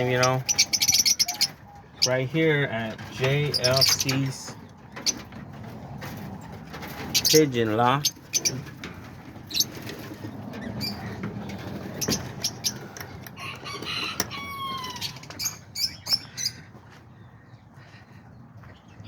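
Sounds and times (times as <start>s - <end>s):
parrots chirping and squawking: 0.0s - 17.9s.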